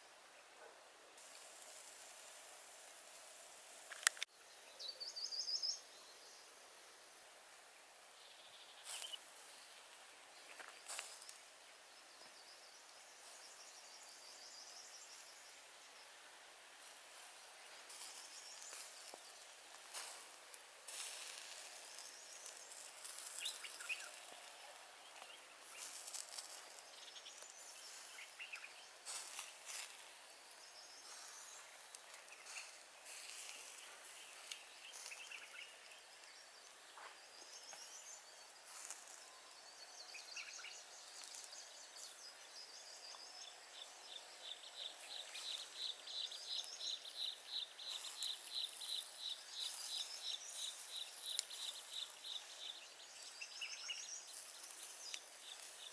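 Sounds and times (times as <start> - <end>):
birds chirping: 7.9 - 55.9.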